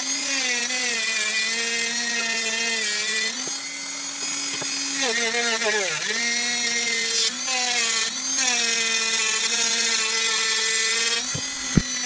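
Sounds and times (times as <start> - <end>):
rotary tool grinding wood: 0.0 - 12.0.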